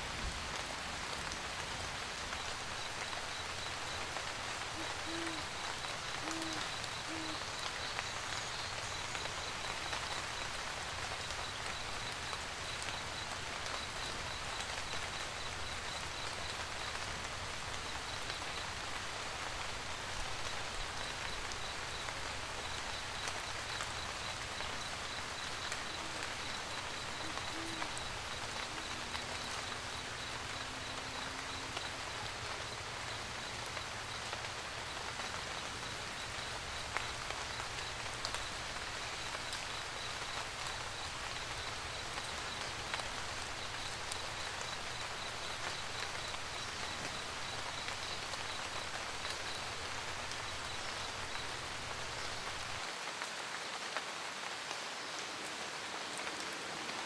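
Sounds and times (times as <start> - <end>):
rain pattering on a roof: 0.0 - 57.0.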